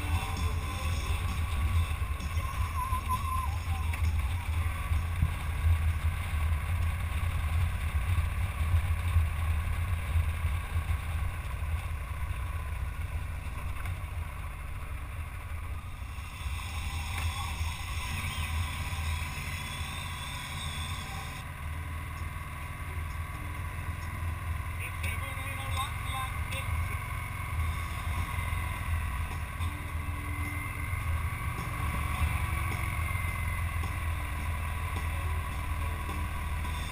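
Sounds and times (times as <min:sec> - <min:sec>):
motorcycle engine rumble: 0:00.0 - 0:36.9.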